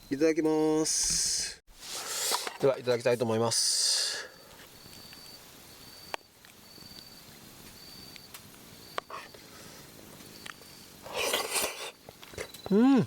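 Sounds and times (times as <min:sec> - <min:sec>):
insect chirps: 0:02.0 - 0:13.0.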